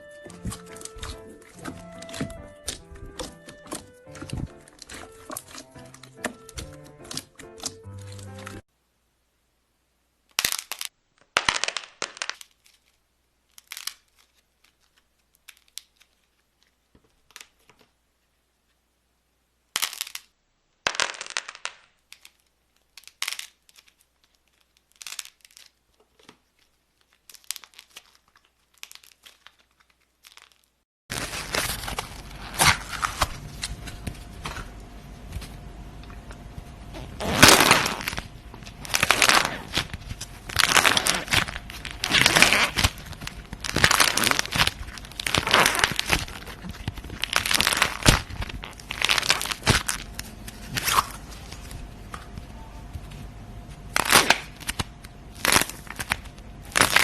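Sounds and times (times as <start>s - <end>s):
crunchy slime crackling: 0.0s - 8.7s, 10.3s - 17.9s, 19.7s - 57.0s.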